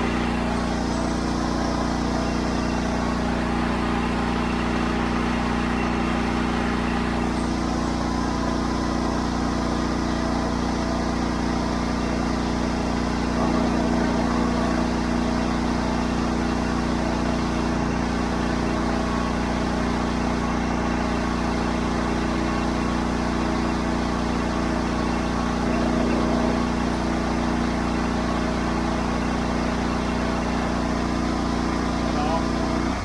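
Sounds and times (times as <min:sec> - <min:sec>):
engine running under load: 0:00.0 - 0:33.0
pressure washer spraying: 0:00.0 - 0:33.0.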